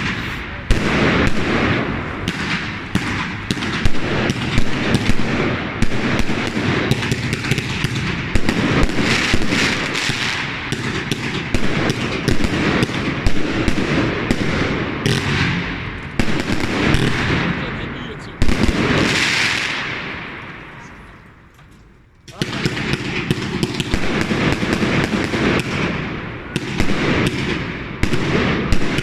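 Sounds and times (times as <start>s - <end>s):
fireworks hissing: 0.0s - 10.9s, 12.2s - 29.0s
firework barrage: 0.0s - 29.0s.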